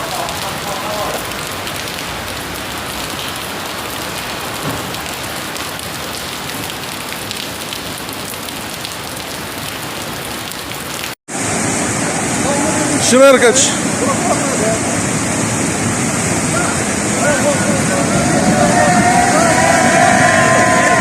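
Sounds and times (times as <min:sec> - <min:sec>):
heavy rain on hard surfaces: 0:00.0 - 0:21.0.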